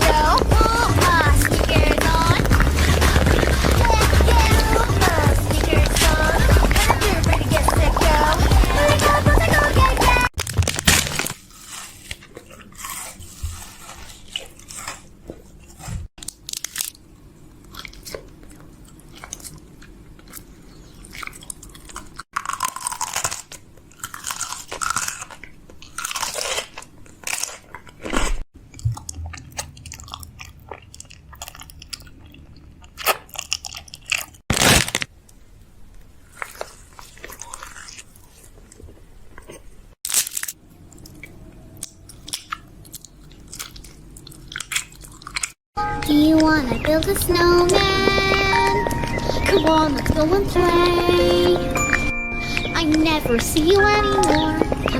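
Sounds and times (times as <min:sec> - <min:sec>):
crunching and chewing: 0:00.0 - 0:54.9.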